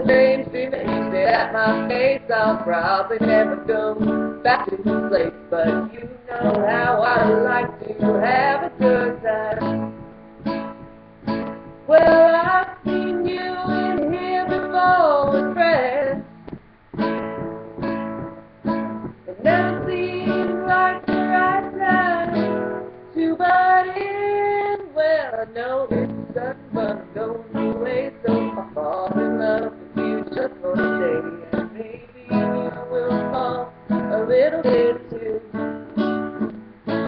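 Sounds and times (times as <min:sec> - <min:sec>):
woman singing: 0:00.0 - 0:10.2, 0:11.3 - 0:16.6, 0:19.0 - 0:37.0
strummed acoustic guitar: 0:00.0 - 0:37.0.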